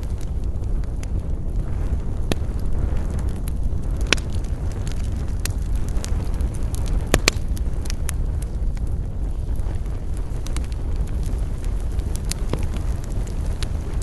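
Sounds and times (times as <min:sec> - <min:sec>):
burning wood crackling and popping: 0:00.0 - 0:14.0
campfire low rumble: 0:00.0 - 0:14.0.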